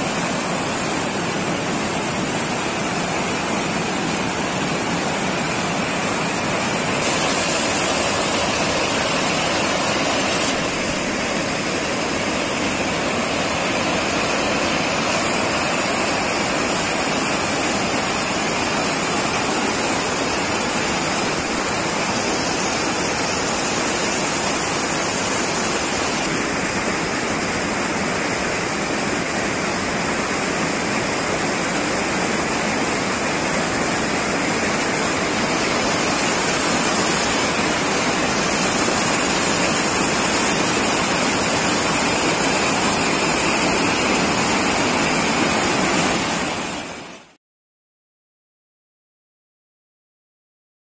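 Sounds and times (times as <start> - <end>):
waterfall rushing over rocks: 0.0 - 47.4.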